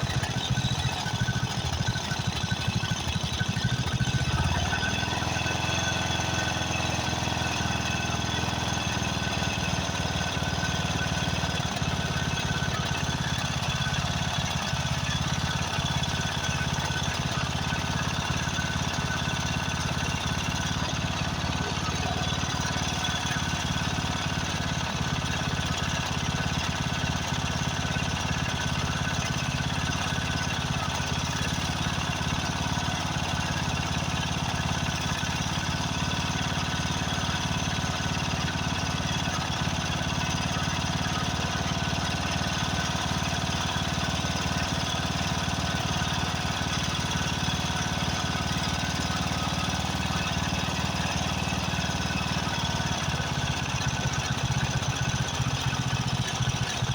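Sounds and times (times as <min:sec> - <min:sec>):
riding mower engine running: 0:00.0 - 0:56.9.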